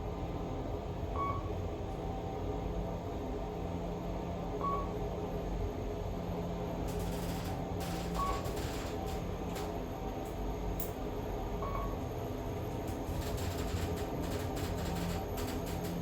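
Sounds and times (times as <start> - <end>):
elevator hum and rumble: 0.0 - 16.0.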